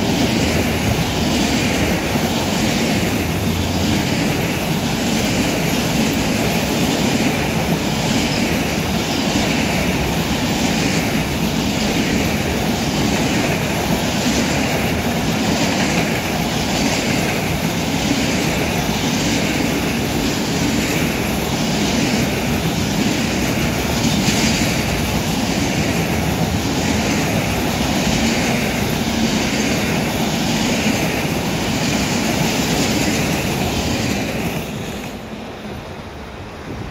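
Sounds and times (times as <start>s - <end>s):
freight train rolling past: 0.0s - 36.9s.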